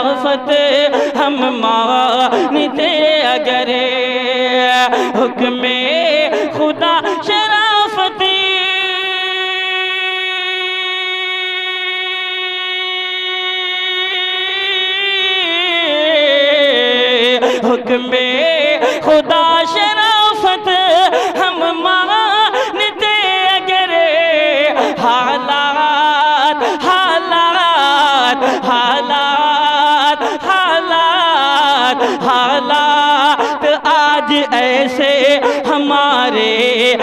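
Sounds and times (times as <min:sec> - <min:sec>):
man singing: 0:00.0 - 0:37.0.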